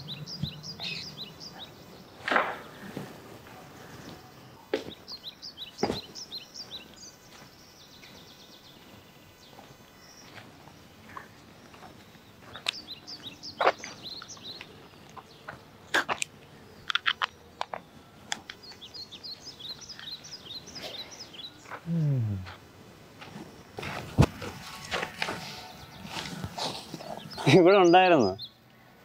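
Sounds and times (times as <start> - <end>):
outdoor ambience: 0.0 - 29.0
small birds chirping: 0.0 - 29.0.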